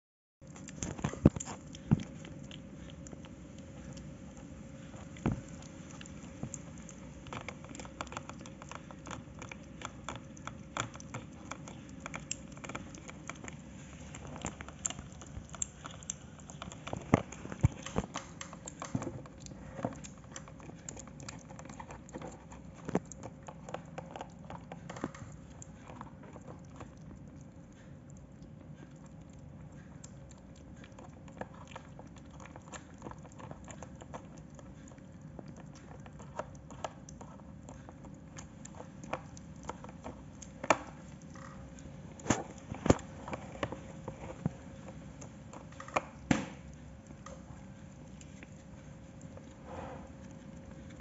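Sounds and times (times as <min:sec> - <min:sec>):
faint steady hum: 0:00.4 - 0:51.0
kittens chewing wet food: 0:00.4 - 0:51.0.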